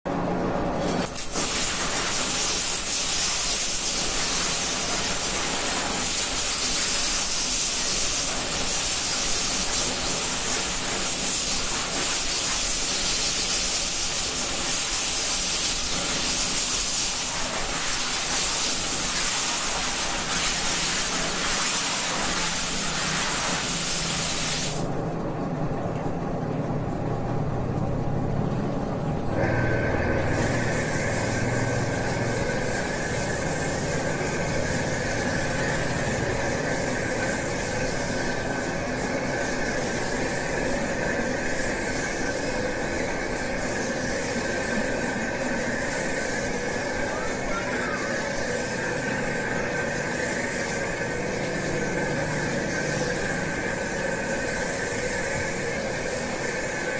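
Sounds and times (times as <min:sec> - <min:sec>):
water spraying hiss: 0:01.0 - 0:24.9, 0:29.4 - 0:56.9.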